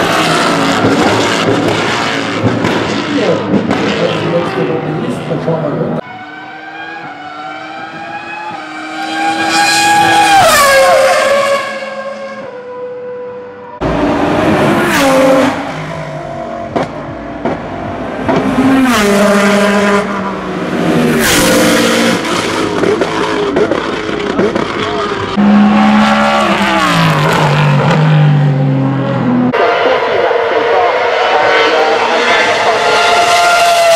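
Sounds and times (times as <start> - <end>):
racing car engine passing: 0.0 - 33.9.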